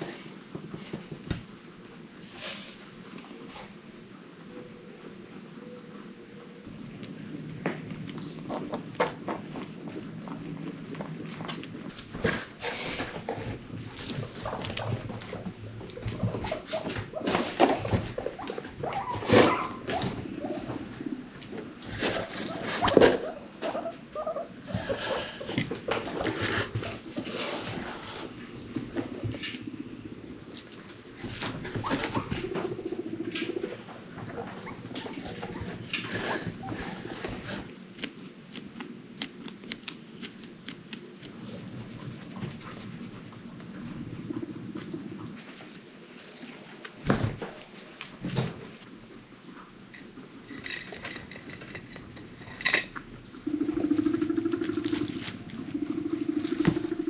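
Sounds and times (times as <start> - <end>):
guinea pigs cooing: 2.2 - 47.0, 52.6 - 57.0.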